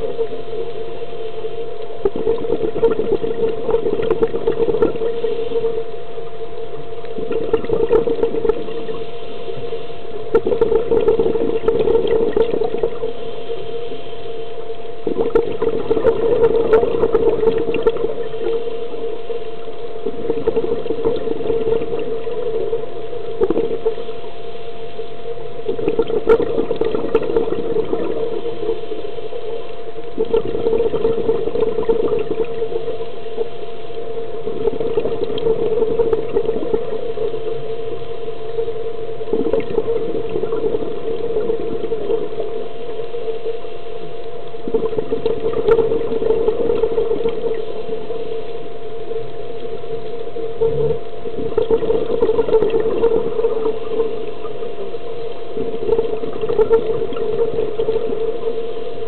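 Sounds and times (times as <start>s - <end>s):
exhaled bubbles rushing underwater: 0.0s - 59.0s
steady hum: 0.0s - 59.0s.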